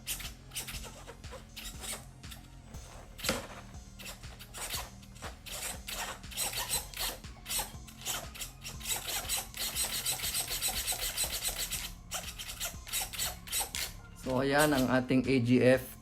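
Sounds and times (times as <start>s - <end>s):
servo whirring back and forth: 0.0s - 15.3s.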